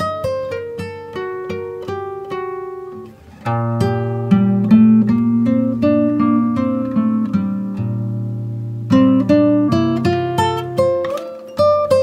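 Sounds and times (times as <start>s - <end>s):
acoustic guitar picking: 0.0s - 12.0s.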